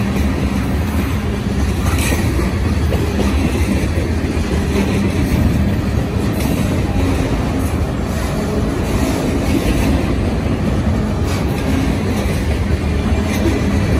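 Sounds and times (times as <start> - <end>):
freight train wheels on rails: 0.0 - 13.9.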